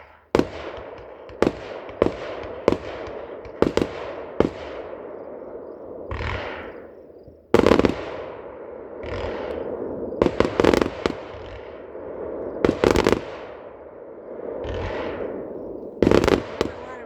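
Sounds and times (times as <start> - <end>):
fireworks bangs: 0.0 - 17.0
rumbling echo: 0.0 - 17.0.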